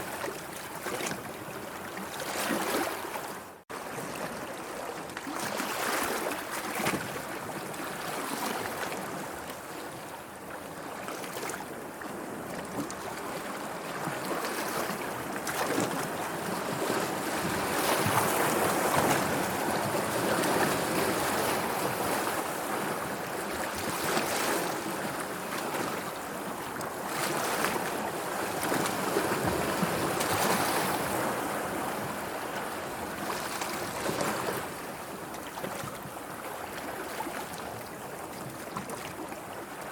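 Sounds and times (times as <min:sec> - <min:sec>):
sea waves washing and lapping: 0:00.0 - 0:39.9.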